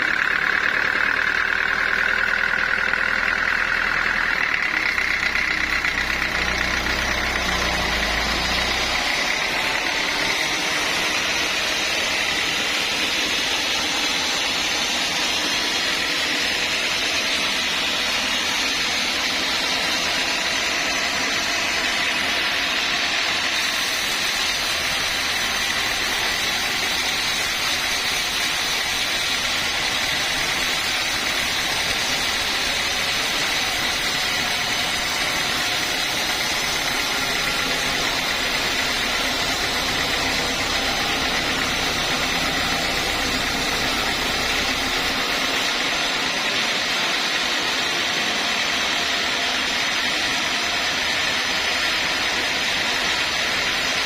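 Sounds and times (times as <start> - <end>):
saw whining through log: 0.0 - 54.0.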